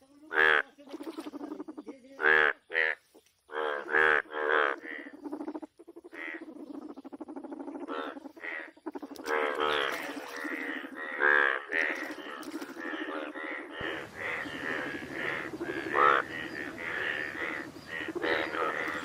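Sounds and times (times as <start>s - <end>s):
frogs croaking: 0.0s - 19.0s
pulsed frog trill: 3.8s - 19.0s.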